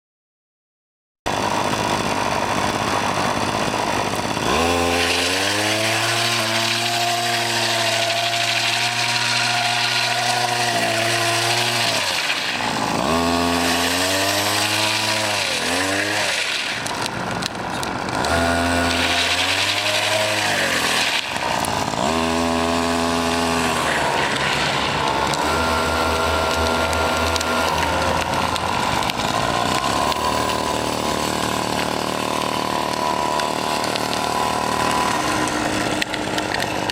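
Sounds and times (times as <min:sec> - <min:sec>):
small two-stroke engine revving: 0:01.3 - 0:36.9.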